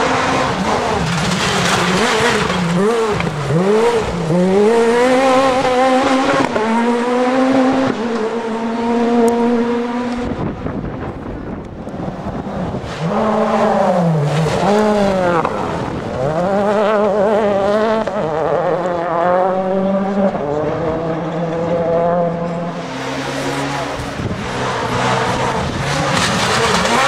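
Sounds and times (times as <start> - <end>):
rally car engine revving: 0.0 - 27.0.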